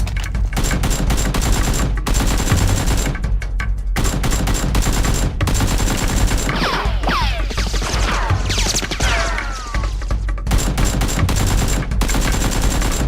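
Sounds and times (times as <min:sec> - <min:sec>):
rapid automatic gunfire: 0:00.6 - 0:03.4, 0:04.0 - 0:09.1, 0:10.5 - 0:13.0.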